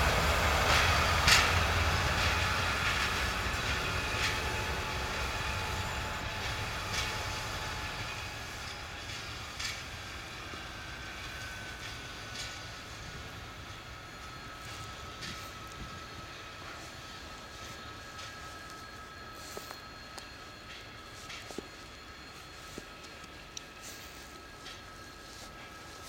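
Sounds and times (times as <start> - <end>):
diesel locomotive engine rumble: 0.0 - 26.0
train wheel noise: 0.0 - 26.0
wheels clicking over rail joints: 0.0 - 26.0.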